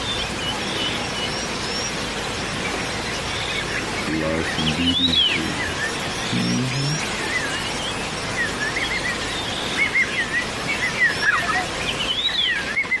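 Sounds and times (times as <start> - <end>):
steady background hiss: 0.0 - 12.9
birds warbling chirps: 0.0 - 13.0.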